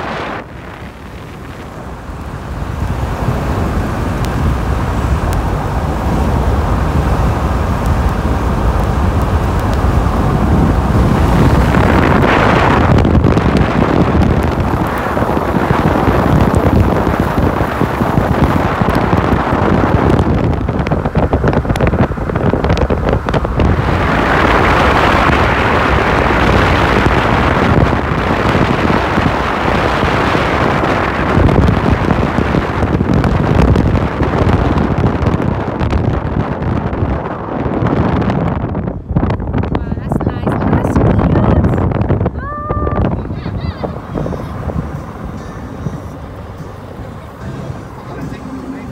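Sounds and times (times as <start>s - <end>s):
car road noise: 0.0s - 48.9s
wind buffeting microphone: 0.0s - 48.9s.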